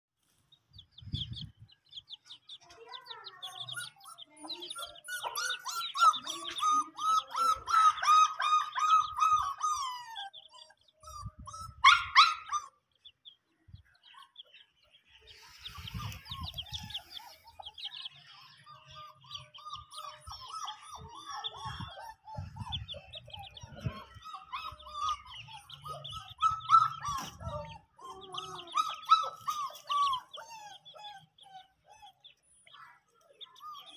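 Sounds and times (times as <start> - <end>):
bird chirps: 0.3 - 33.9
chickens clucking: 0.3 - 33.9.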